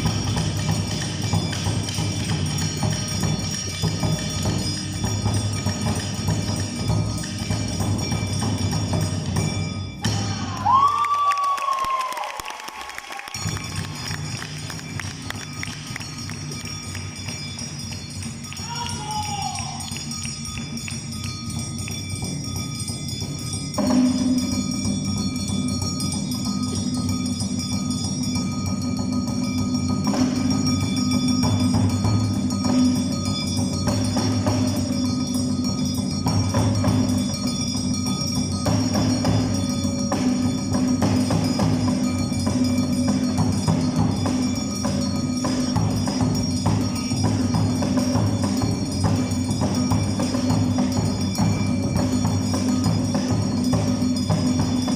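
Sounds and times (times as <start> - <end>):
metal hand gongs ringing: 0.0 - 10.8, 13.3 - 54.9
drums and percussion: 0.0 - 54.9.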